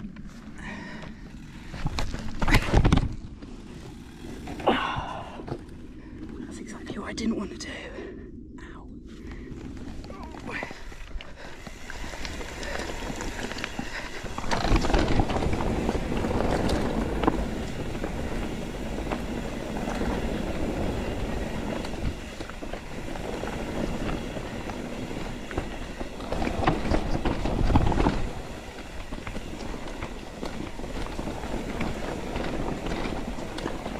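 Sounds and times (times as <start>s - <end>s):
bike tyres crunching on stones: 0.0s - 6.4s, 9.2s - 33.9s
bike rattling and knocking: 0.0s - 6.7s, 9.5s - 33.9s.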